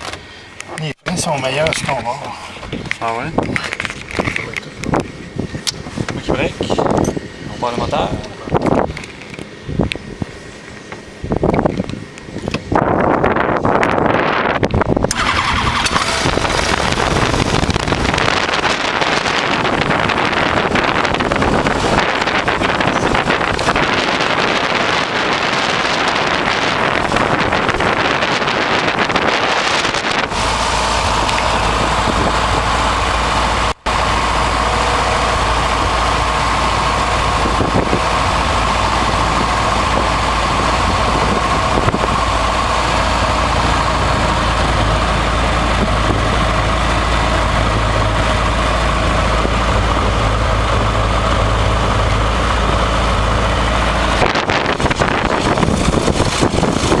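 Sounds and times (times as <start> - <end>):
motor idling: 2.5 - 57.0
wind on microphone: 2.7 - 10.5, 11.2 - 57.0.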